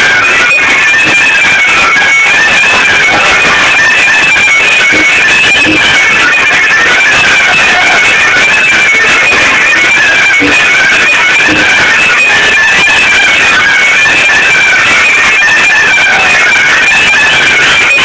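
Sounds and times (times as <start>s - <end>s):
fast folk dance music: 0.0s - 18.0s.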